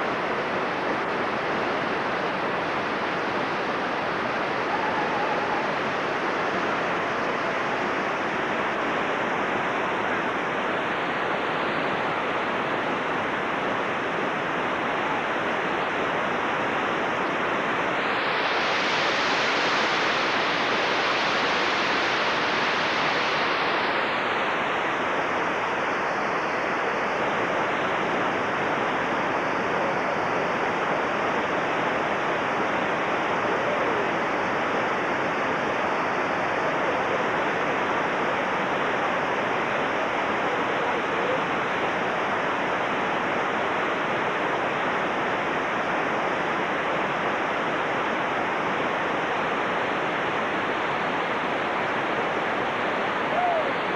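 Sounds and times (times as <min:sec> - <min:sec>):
whitewater rapids rushing: 0:00.0 - 0:53.9.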